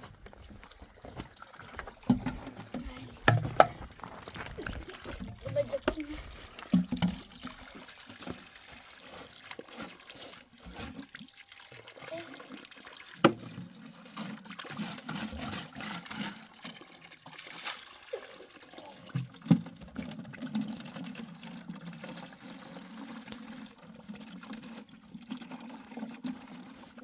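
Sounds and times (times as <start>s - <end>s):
water running and trickling: 0.1s - 27.0s.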